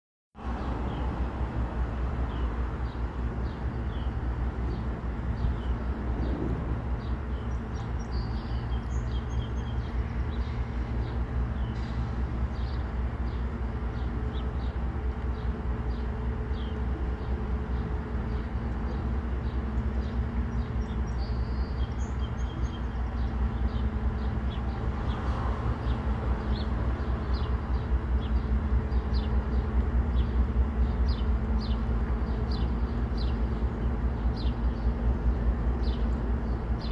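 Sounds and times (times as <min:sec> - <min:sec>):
distant locomotive drone: 0:00.4 - 0:36.9
small birds chirping: 0:02.2 - 0:36.9.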